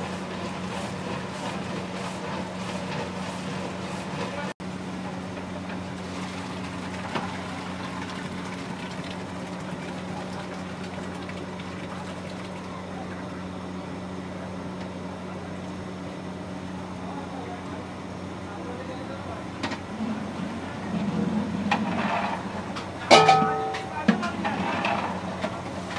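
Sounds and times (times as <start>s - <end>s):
low mechanical hum: 0.0s - 25.9s.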